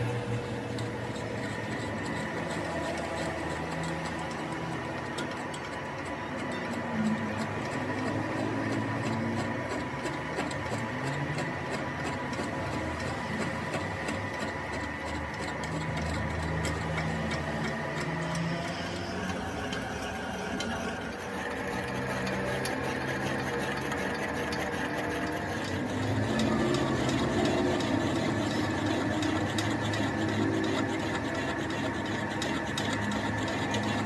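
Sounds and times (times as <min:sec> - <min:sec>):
metal lathe humming: 0:00.0 - 0:34.0.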